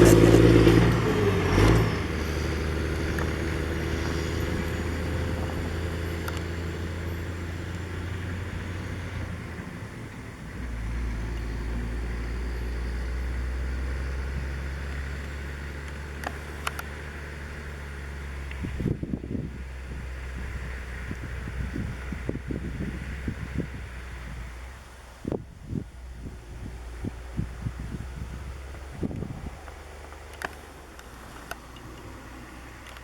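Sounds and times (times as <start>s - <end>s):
diesel truck engine droning: 0.0s - 33.0s.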